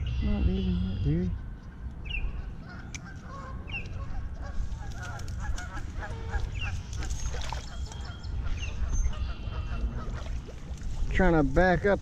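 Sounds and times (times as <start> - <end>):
birds calling: 0.0 - 11.5
steady low rumble: 0.0 - 12.0.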